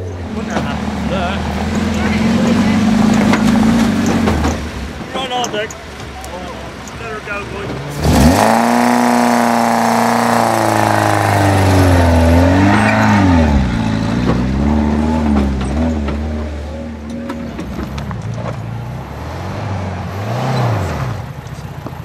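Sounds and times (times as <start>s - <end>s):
car engine pulling hard under load: 0.0s - 22.0s.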